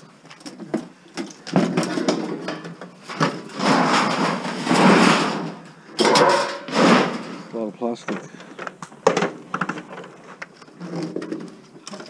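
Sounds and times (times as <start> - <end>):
plastic parts scraping and rattling: 0.2 - 12.0.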